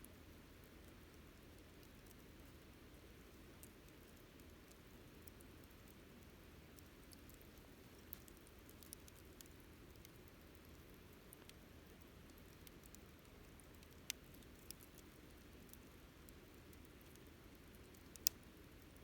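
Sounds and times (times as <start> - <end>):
campfire crackling and hissing: 3.2 - 19.0.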